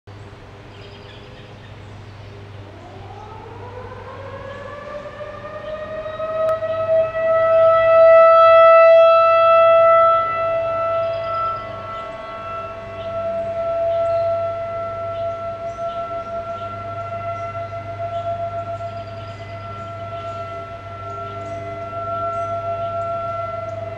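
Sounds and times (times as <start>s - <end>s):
warning siren winding up: 2.8s - 23.9s.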